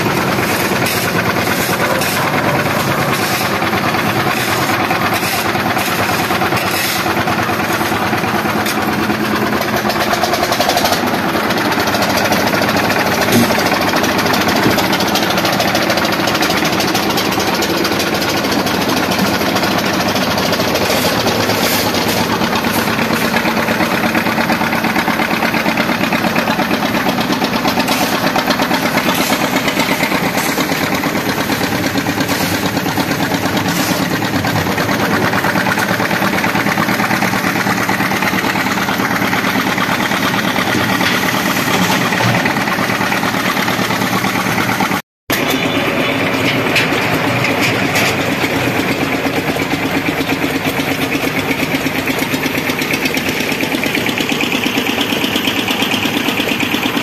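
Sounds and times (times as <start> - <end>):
diesel engine of concrete mixer: 0.0 - 57.0.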